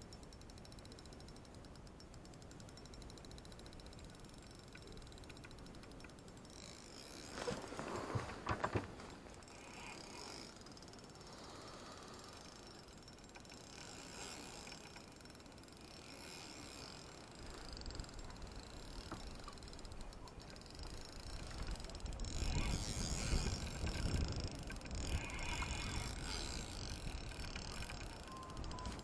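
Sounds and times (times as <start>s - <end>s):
fishing reel mechanical noise: 0.0s - 8.6s, 9.2s - 29.0s.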